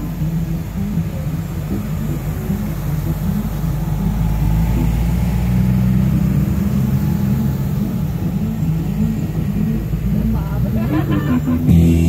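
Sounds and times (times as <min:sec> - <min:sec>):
cars driving slowly past: 0:00.0 - 0:12.0.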